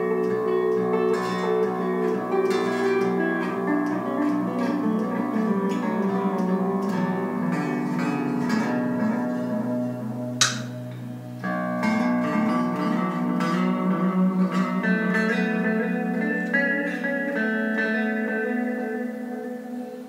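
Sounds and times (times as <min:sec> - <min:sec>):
clean electric guitar: 0:00.0 - 0:20.0.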